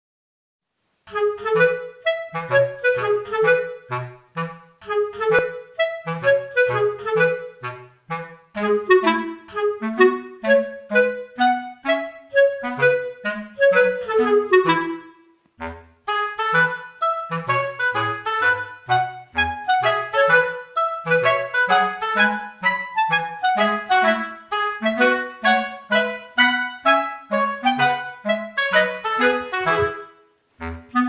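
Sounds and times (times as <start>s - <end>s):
wind instrument melody: 1.1s - 31.0s.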